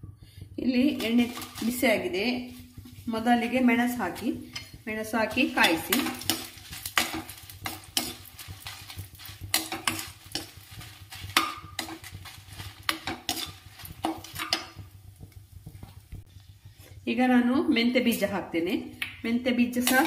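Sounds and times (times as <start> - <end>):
oil sizzling: 0.0 - 20.0
spatula scraping and tapping pan: 0.7 - 17.0, 19.7 - 20.0.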